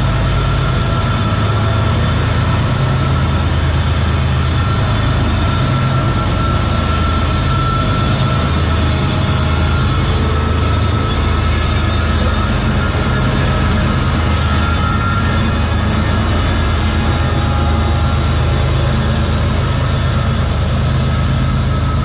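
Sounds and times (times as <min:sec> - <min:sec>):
high wheel squeal: 0:00.0 - 0:22.0
train cars rumbling on rails: 0:00.0 - 0:22.0.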